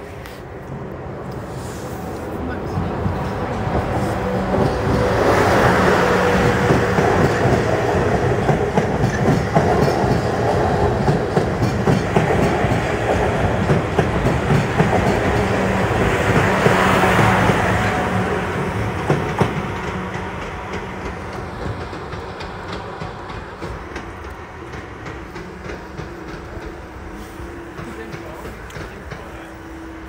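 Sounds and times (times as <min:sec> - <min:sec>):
steady train hum: 0:00.0 - 0:30.0
train wheels clattering over joints: 0:02.7 - 0:29.9.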